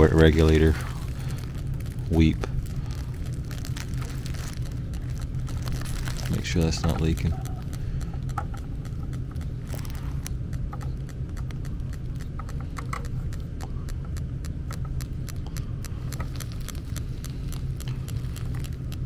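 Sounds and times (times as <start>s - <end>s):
furnace low hum: 0.0s - 19.0s
gas detector ticking: 0.0s - 19.0s.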